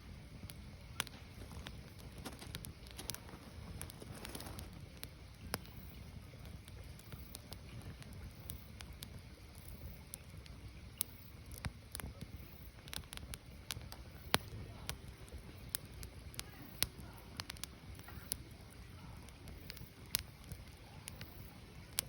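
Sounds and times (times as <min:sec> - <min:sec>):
firewood crackling and popping: 0:00.0 - 0:22.0
low fire rumble: 0:00.0 - 0:22.0.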